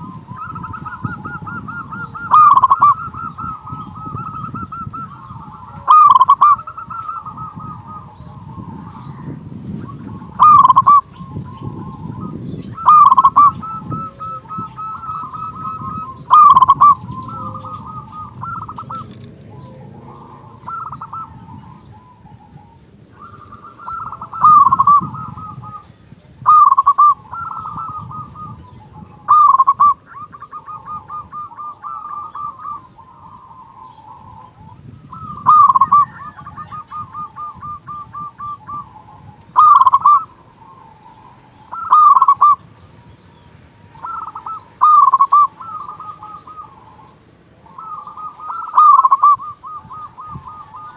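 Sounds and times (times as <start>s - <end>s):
doves cooing: 0.0s - 50.9s
ringing dove calls: 0.0s - 50.9s.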